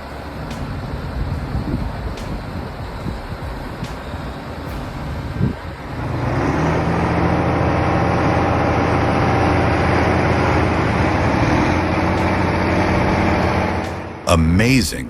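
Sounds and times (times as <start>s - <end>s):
heavy vehicle engine running: 0.0s - 14.4s.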